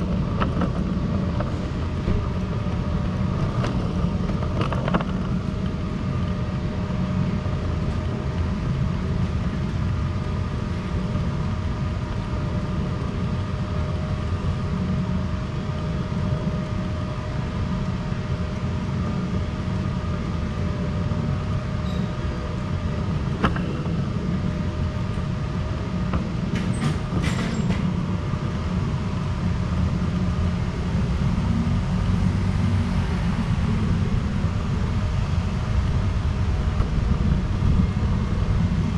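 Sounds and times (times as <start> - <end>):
faint constant hum: 0.0 - 38.9
low street rumble: 0.0 - 38.9.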